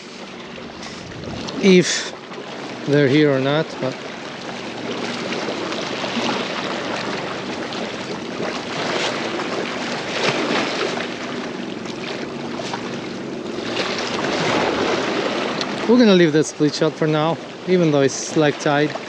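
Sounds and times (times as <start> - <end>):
water splashes: 0.0 - 19.0
waves washing against jetty: 0.0 - 19.0.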